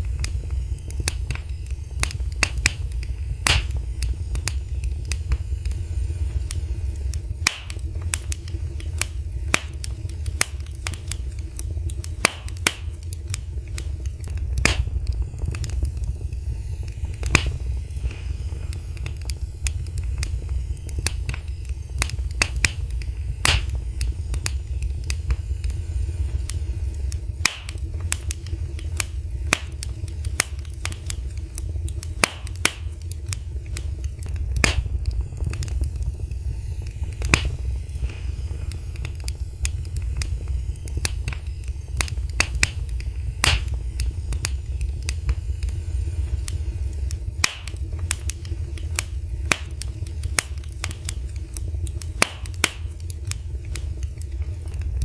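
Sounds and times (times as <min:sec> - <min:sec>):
burning wood crackling and popping: 0:00.0 - 0:55.0
fire rumbling in fireplace: 0:00.0 - 0:55.0.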